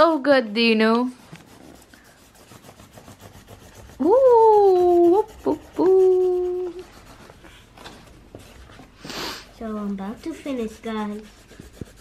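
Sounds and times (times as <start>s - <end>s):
crayon rubbing on paper: 0.0s - 7.7s, 8.4s - 12.0s.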